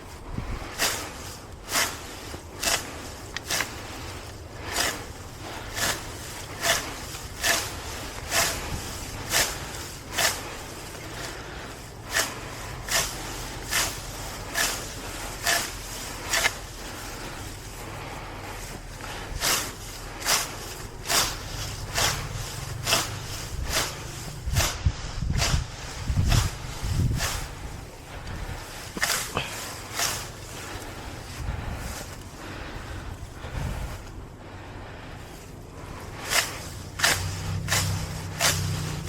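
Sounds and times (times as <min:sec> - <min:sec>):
grass being pulled out: 0:00.0 - 0:39.0.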